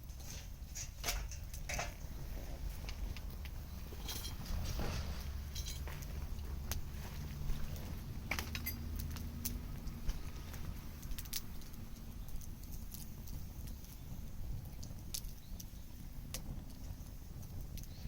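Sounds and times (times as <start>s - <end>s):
bonfire crackling: 0.0s - 18.0s.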